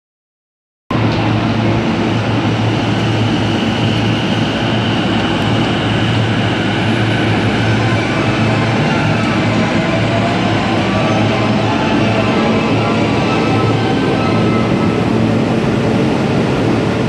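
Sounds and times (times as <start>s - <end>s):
electric train humming: 0.9s - 17.0s.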